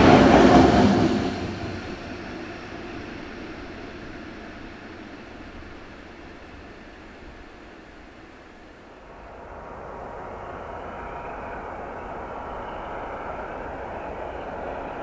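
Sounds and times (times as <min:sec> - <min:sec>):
diesel locomotive working hard: 0:00.0 - 0:15.0.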